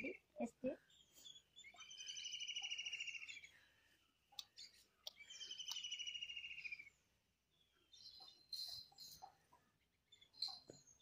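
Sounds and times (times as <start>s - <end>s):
bird singing a pulsing trill: 0.0s - 11.0s.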